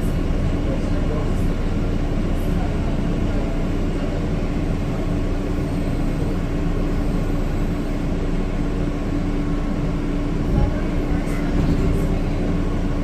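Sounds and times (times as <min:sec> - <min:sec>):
subway car hum and rumble: 0:00.0 - 0:13.0.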